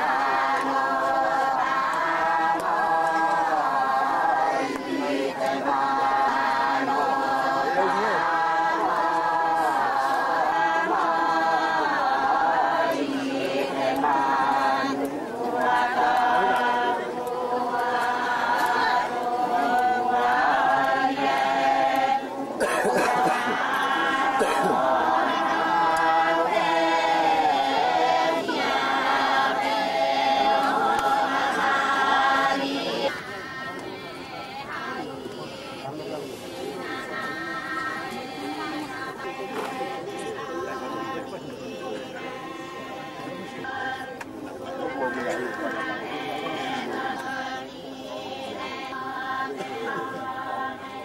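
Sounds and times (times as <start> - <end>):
group singing in unison: 0.0 - 51.0.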